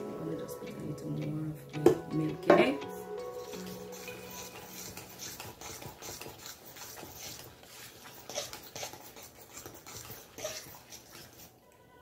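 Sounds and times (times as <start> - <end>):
spoon scraping saucepan: 0.2 - 11.5.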